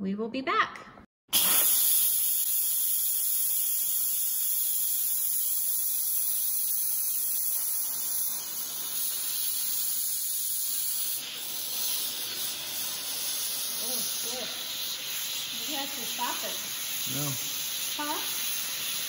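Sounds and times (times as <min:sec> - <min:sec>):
pressure cooker venting steam: 0:01.3 - 0:19.0.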